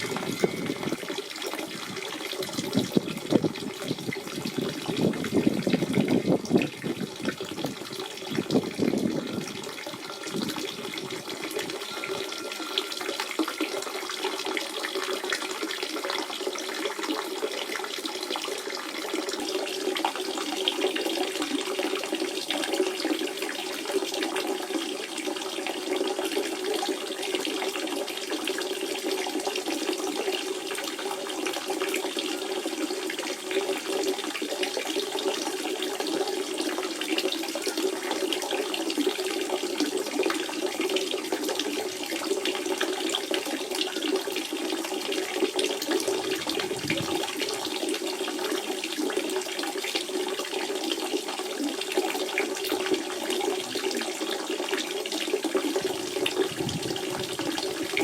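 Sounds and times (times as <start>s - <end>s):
spring water running and splashing: 0.0s - 58.0s.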